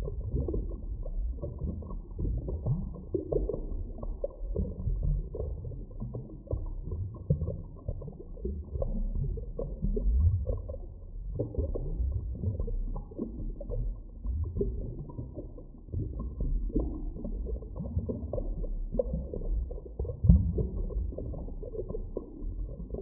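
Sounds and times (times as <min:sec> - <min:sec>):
muffled underwater rumbling: 0:00.0 - 0:23.0
water bubbling and gurgling: 0:00.0 - 0:23.0.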